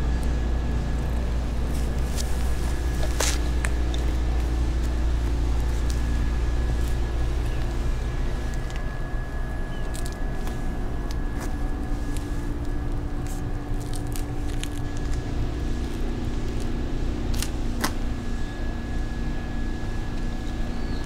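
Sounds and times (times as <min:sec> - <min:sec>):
faint steady hum: 0:00.0 - 0:21.0
steady low rumble: 0:00.0 - 0:21.0.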